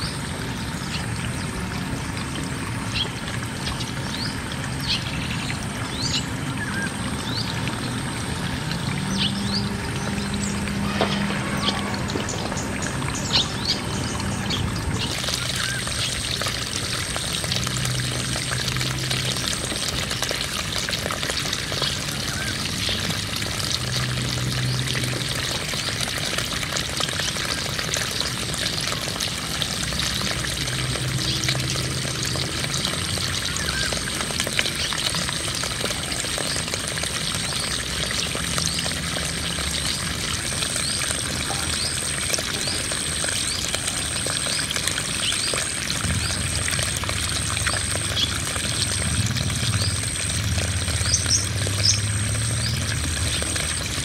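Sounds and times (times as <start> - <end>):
water gushing from pipe: 0.0 - 54.0
water splashing on mud: 0.0 - 54.0.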